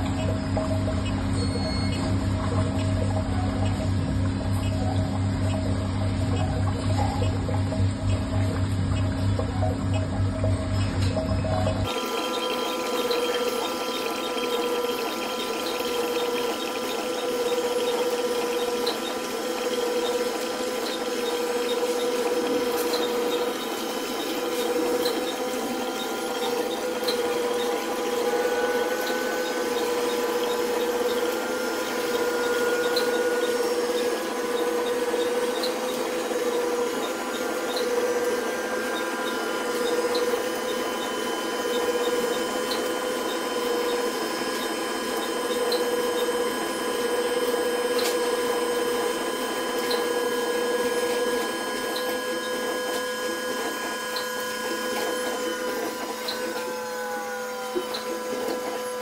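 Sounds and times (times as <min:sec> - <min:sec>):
electric water pump humming: 0:00.0 - 0:59.0.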